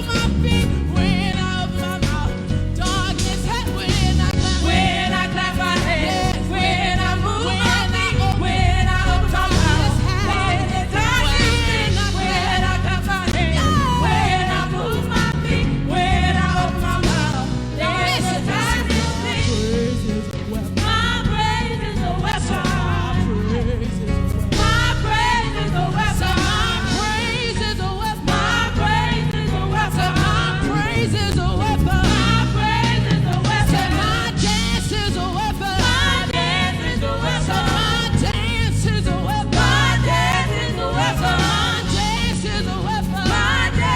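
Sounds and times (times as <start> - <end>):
band bass accompaniment: 0.0 - 43.9
voices singing gospel: 0.0 - 43.9.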